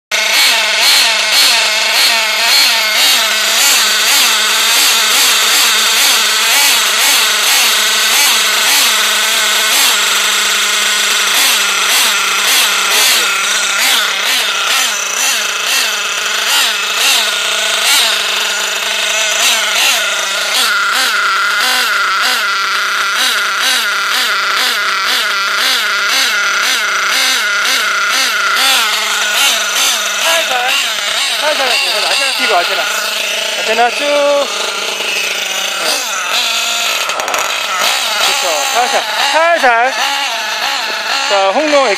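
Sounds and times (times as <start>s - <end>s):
small nitro engine running: 0.1s - 41.9s.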